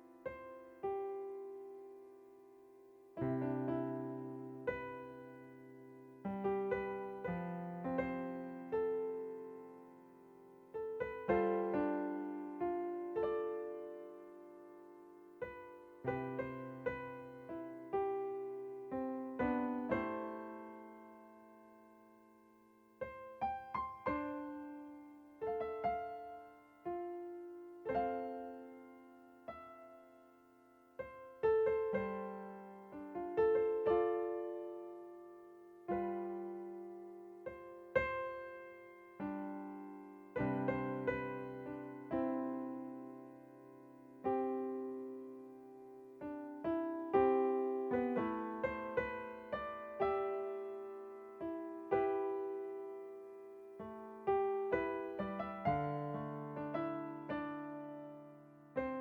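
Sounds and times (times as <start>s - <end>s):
gentle solo piano: 0.0s - 59.0s.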